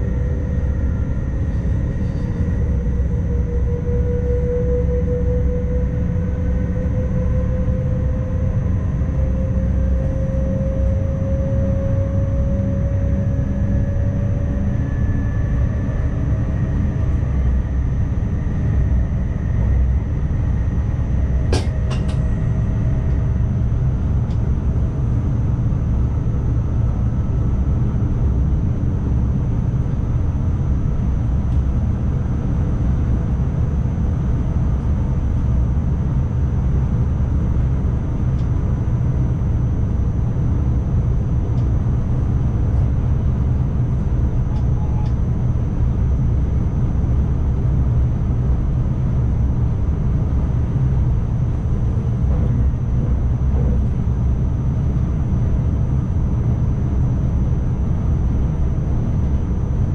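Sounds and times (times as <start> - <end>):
train running low rumble: 0.0 - 59.9.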